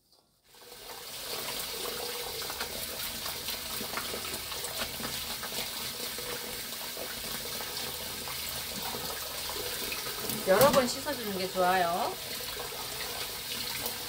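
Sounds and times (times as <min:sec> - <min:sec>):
tap spraying water into bowl: 0:00.8 - 0:14.0.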